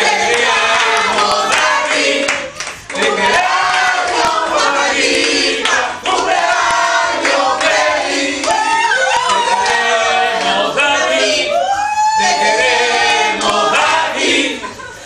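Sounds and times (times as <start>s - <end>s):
group of people singing: 0.0s - 15.0s
people cheering: 0.0s - 15.0s.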